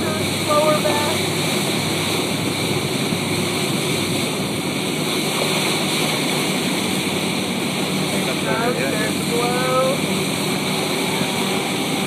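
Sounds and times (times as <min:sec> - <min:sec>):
boat engine running: 0:00.0 - 0:12.0
sea noise: 0:00.0 - 0:12.0
wind: 0:00.0 - 0:12.0.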